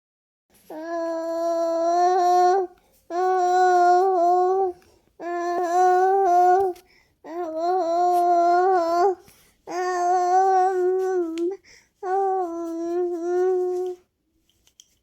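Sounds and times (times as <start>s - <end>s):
baby singing: 0.7s - 14.1s.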